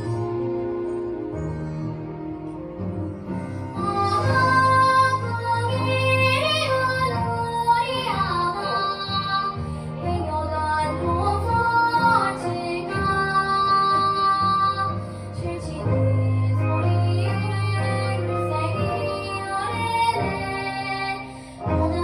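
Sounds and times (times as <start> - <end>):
instrumental accompaniment: 0.0 - 22.0
child singing: 3.8 - 22.0.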